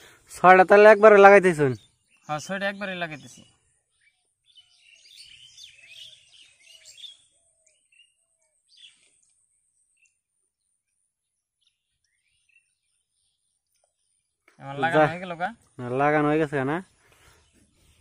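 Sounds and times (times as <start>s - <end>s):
birds chirping and twittering: 0.0s - 18.0s.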